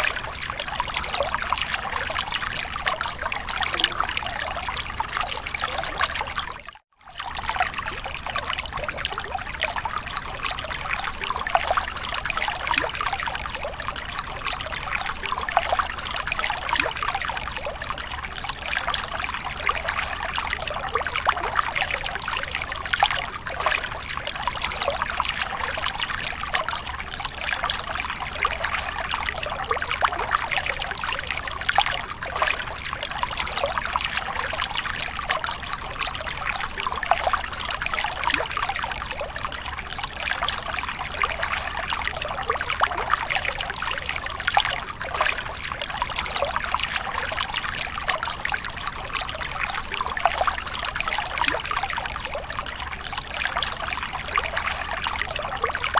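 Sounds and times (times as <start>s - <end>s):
water trickling over rocks: 0.0s - 55.9s.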